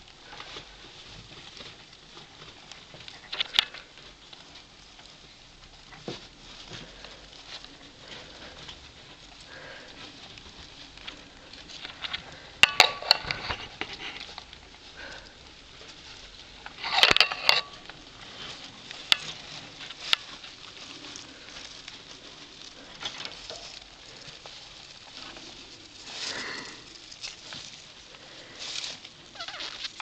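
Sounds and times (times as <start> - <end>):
paper bedding rustling and crinkling: 0.0 - 30.0.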